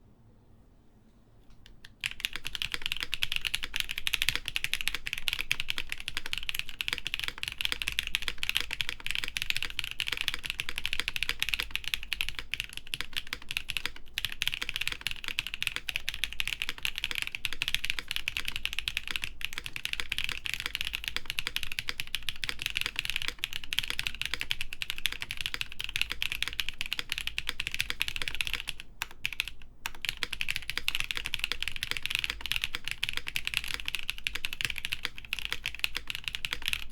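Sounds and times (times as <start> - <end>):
mechanical keyboard typing: 1.6 - 36.9.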